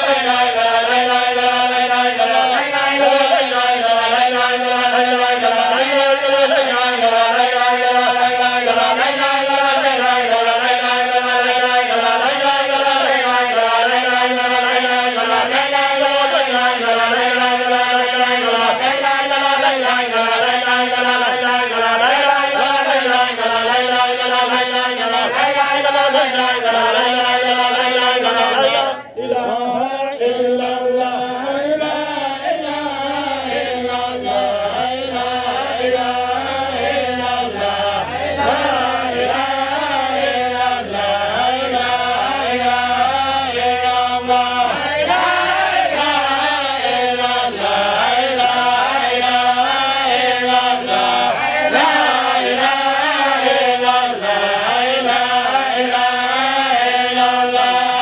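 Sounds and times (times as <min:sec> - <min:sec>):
men chanting devotional chant: 0:00.0 - 0:58.0.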